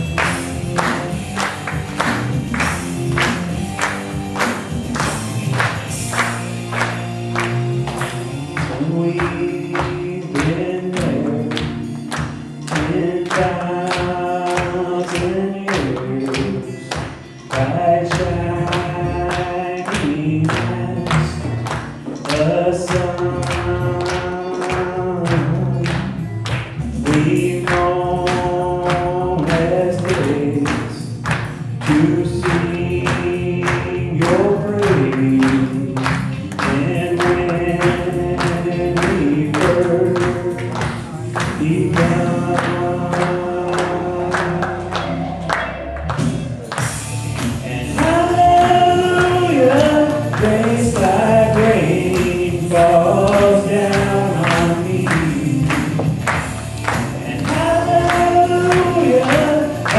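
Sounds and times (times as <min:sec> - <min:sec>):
live worship song: 0:00.0 - 0:59.9.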